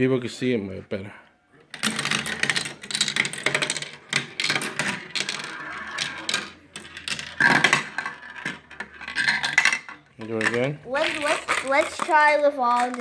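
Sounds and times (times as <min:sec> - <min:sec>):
marbles rolling down marble run: 0:01.7 - 0:13.0.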